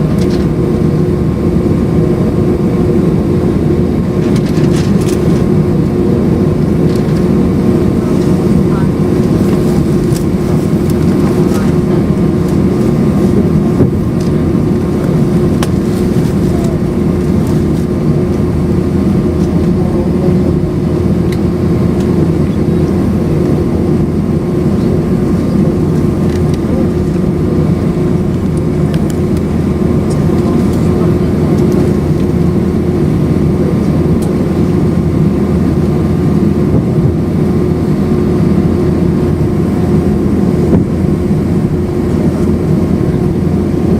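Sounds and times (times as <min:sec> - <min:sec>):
jet engines droning in cabin: 0:00.0 - 0:43.9.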